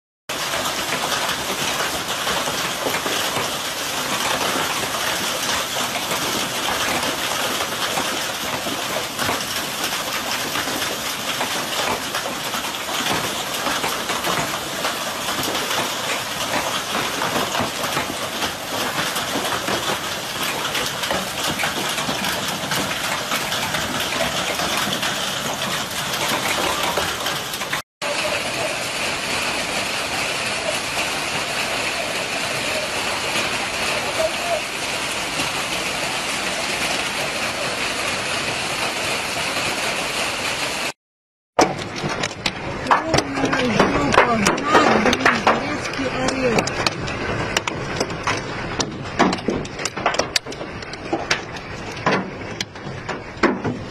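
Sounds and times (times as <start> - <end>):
hailstones pelting ground: 0.3 - 40.9, 41.6 - 53.9
rain rushing: 0.3 - 41.0, 41.6 - 53.9.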